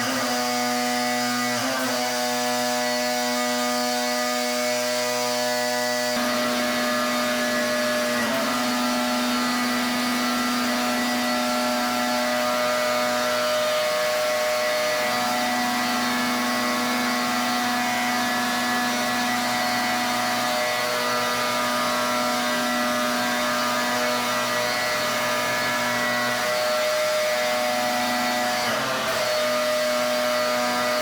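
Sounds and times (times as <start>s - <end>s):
pressure washer motor humming: 0.0s - 31.0s.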